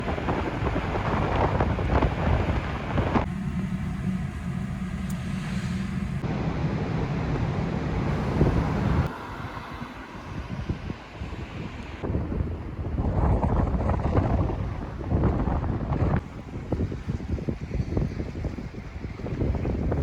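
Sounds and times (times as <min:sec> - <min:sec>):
vehicle rumble: 0:00.0 - 0:20.0
wind noise on microphone: 0:00.0 - 0:20.0.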